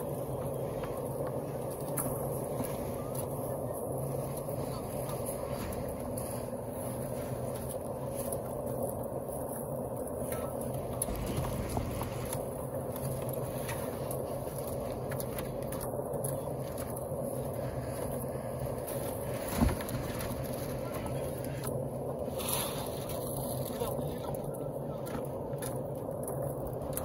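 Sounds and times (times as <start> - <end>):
concrete mixer engine drone: 0.0 - 27.0.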